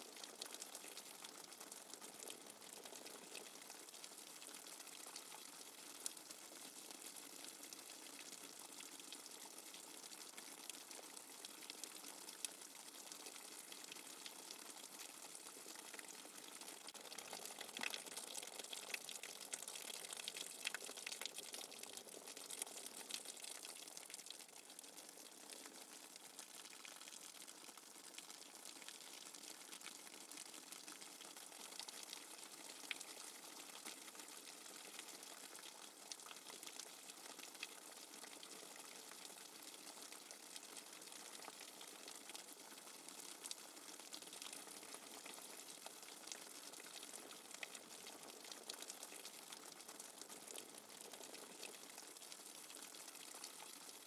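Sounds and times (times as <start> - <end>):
soft steady rain: 0.0 - 54.0.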